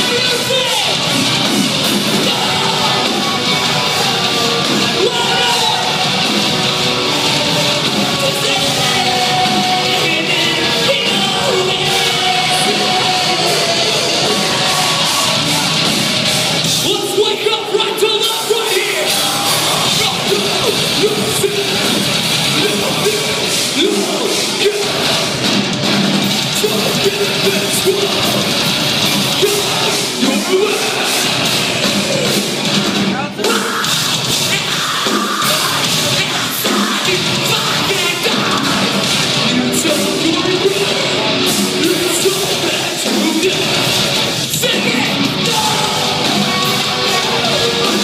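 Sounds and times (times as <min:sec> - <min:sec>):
metalcore band playing live: 0:00.0 - 0:48.0
yelled vocals: 0:00.0 - 0:48.0.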